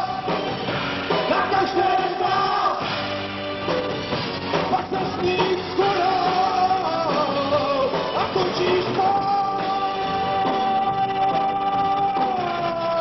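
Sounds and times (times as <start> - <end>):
person singing: 0.0 - 2.9, 4.7 - 13.0
drums: 0.0 - 13.0
electric guitar: 0.0 - 13.0.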